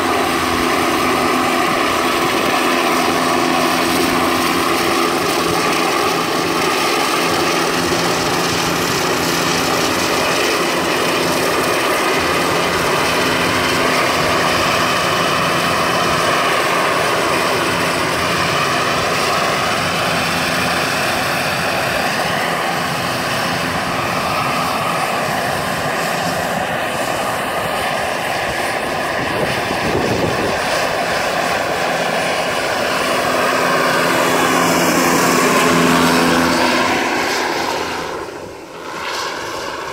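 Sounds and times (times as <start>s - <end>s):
gas turbine whine: 0.0s - 39.9s.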